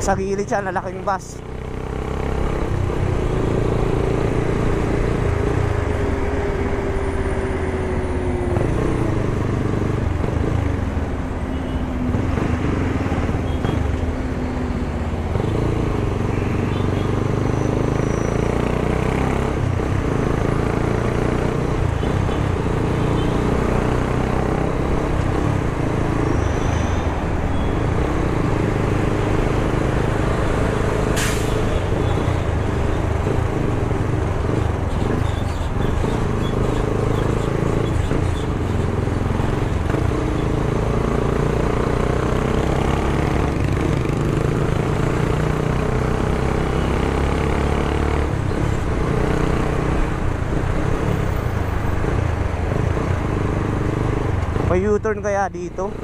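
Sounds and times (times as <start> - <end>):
road noise rushing: 0.0 - 56.0.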